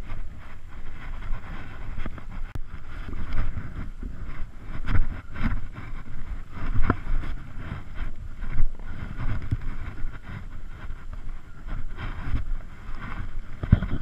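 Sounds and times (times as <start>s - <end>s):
footsteps through dry grass: 0.0s - 14.0s
wind buffeting microphone: 0.0s - 14.0s.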